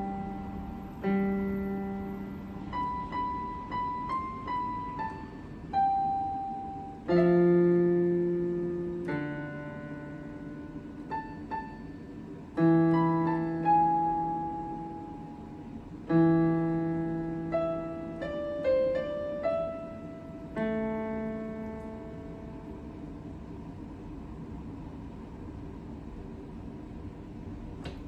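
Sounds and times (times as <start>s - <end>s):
electronic piano chords and notes: 0.0s - 23.2s.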